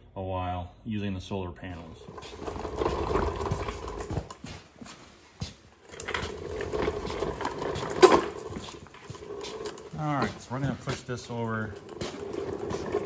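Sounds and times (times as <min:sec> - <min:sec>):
dolly rumbling on concrete: 0:01.6 - 0:13.0.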